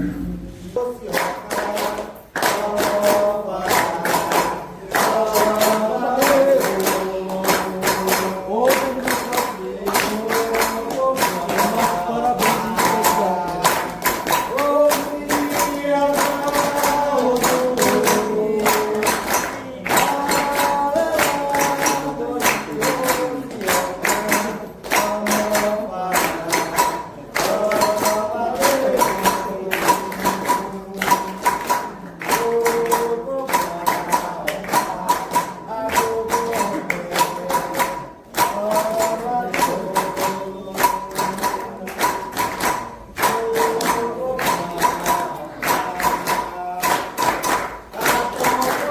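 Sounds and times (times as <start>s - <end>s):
hand drums and percussion: 0.0s - 48.9s
ritual chant singing: 0.0s - 48.9s.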